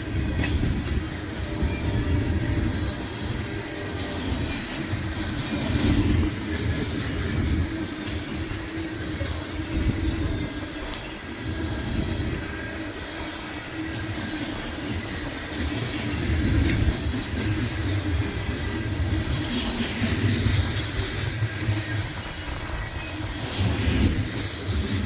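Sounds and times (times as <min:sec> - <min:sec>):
train wheels clattering over rails: 0:00.0 - 0:25.0
wind buffeting microphone: 0:00.0 - 0:25.0.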